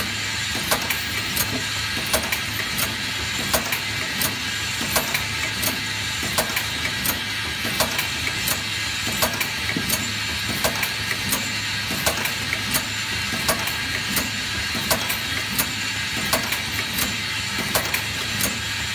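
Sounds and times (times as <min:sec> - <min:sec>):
sharp mechanical clicks: 0:00.6 - 0:18.6.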